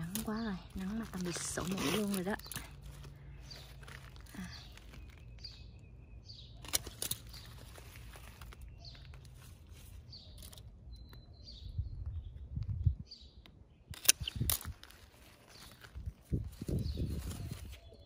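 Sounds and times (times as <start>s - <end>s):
low rumble of wind or handling: 0.0s - 18.0s
small birds chirping: 0.0s - 18.0s.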